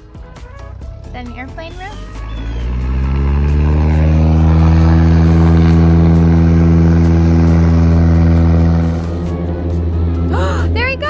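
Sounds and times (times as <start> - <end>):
propeller engine revving up: 0.0 - 11.0.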